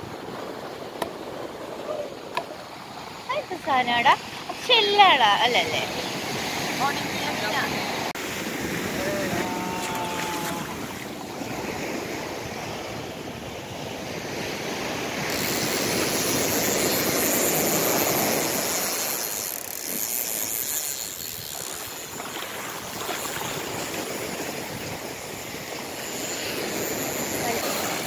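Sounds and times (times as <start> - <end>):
surf washing up sandy beach: 0.0 - 19.6, 21.6 - 28.0.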